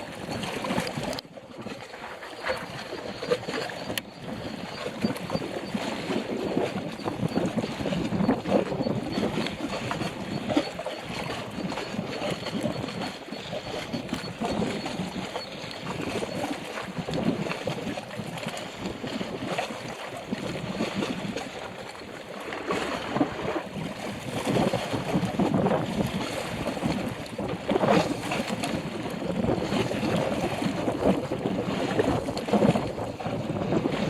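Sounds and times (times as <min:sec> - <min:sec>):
gusty wind buffeting microphone: 0:00.0 - 0:34.0.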